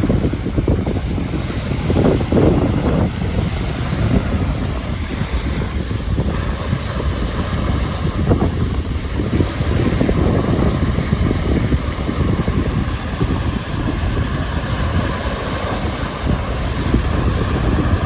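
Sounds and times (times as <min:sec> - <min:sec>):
waves washing onto shore: 0:00.0 - 0:18.0
wind buffeting microphone: 0:00.0 - 0:18.0.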